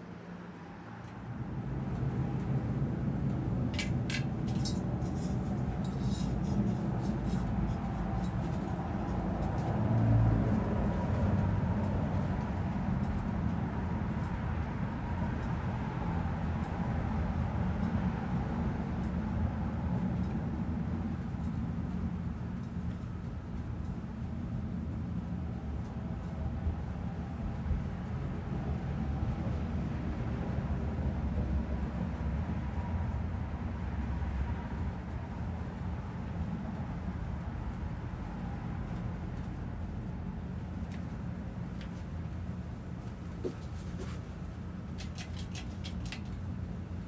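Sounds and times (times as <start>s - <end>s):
ceiling fan whirring: 0.0s - 47.0s.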